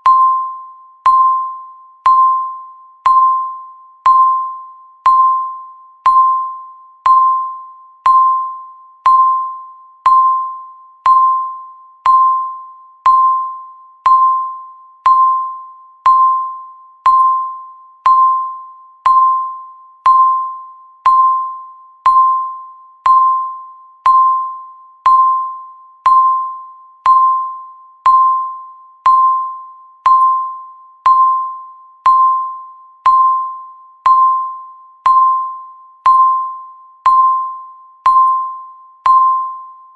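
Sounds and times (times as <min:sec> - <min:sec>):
bell-like timer ding: 0:00.0 - 0:39.9.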